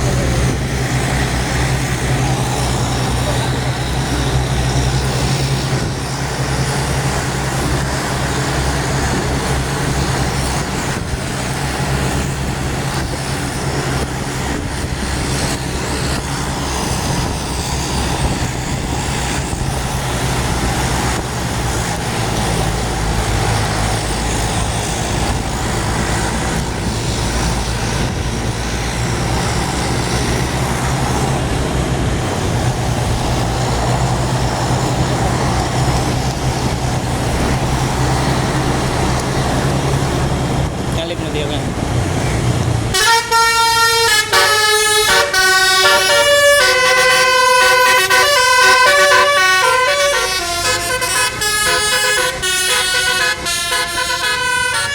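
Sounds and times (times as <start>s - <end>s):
bus diesel engine humming: 0.0s - 54.9s
road traffic noise: 0.0s - 54.9s.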